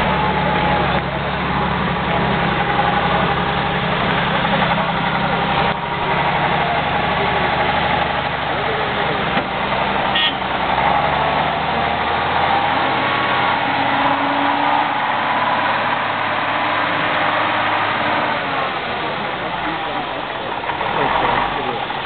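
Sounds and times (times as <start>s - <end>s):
truck engine under load: 0.0s - 22.0s.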